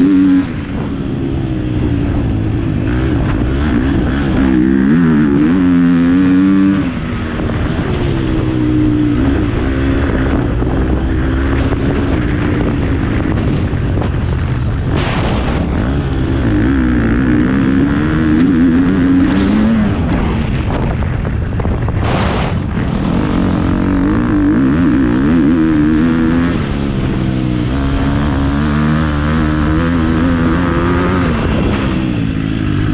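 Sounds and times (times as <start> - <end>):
motocross bike engine revving: 0.0 - 32.9.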